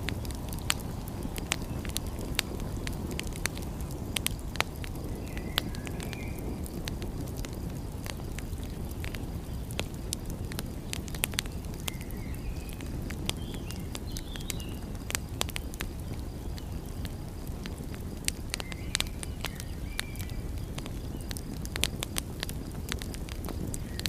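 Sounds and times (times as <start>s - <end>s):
sharp pops of fire: 0.0s - 24.0s
wood fire crackling: 0.0s - 24.0s.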